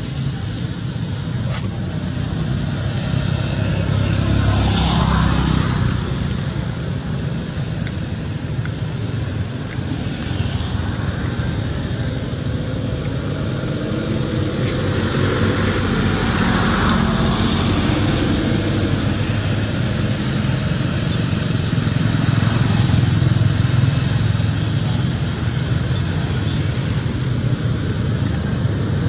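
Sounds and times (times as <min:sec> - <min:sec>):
motor vehicle traffic: 0:00.0 - 0:29.0
motorcycle: 0:00.0 - 0:29.0
steady background noise: 0:00.0 - 0:29.0.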